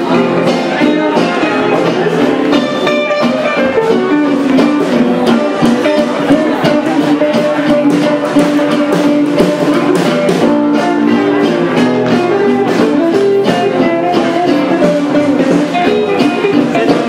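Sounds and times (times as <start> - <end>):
gypsy jazz guitar music: 0.0 - 17.0.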